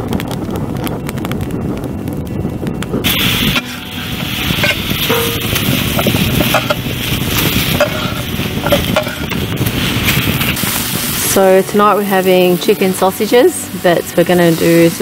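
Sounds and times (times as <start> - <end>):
food sizzling on barbecue: 0.1 - 15.0.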